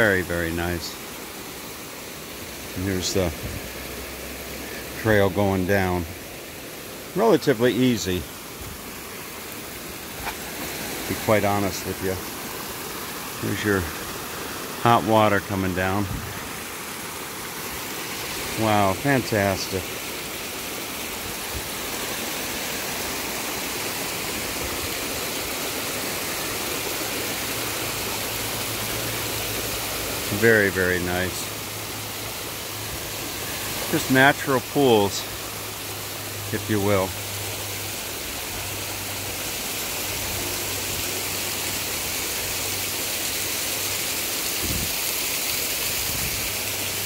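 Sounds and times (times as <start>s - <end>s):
water cascading over rocks: 0.0s - 47.0s.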